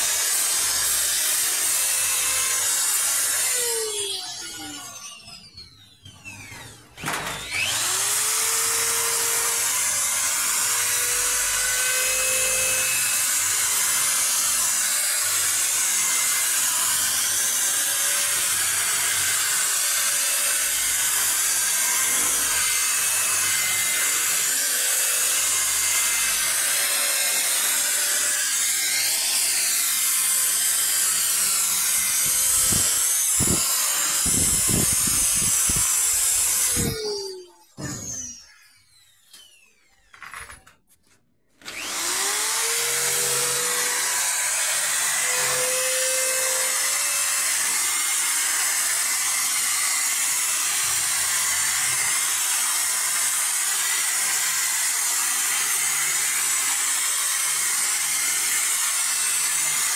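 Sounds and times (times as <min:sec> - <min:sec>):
drill motor whine: 0:00.0 - 0:40.7, 0:41.6 - 0:59.9.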